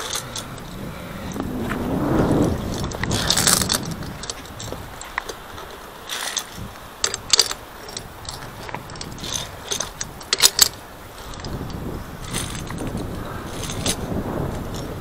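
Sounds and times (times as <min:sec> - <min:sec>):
carabiners clinking on steel cable: 0:00.0 - 0:00.8, 0:02.7 - 0:15.0.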